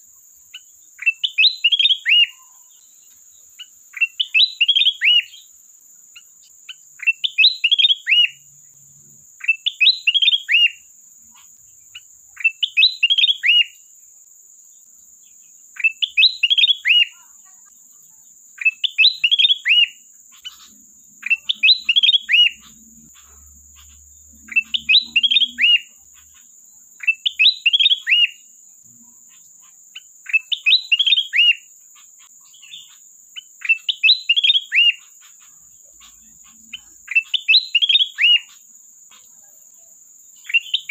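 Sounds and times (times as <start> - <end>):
bulbul chirping song: 0.0 - 40.9.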